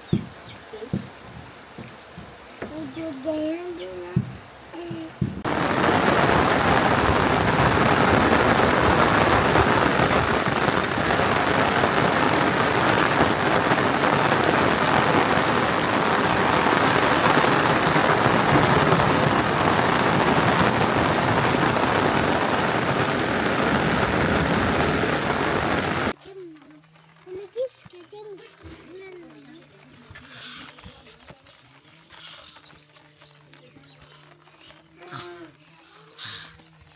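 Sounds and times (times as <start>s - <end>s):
heavy rain downpour: 0.0s - 36.9s.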